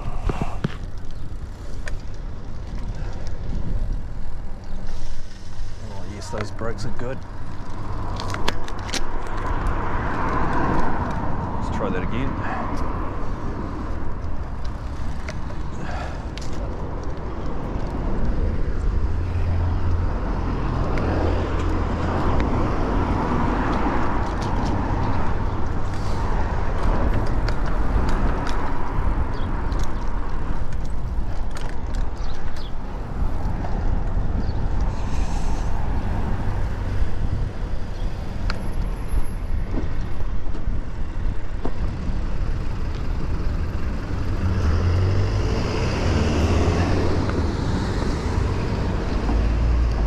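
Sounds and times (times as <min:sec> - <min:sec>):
passing traffic: 0:00.0 - 0:50.0
road noise: 0:00.0 - 0:50.0
wind rumbling on microphone: 0:00.0 - 0:50.0.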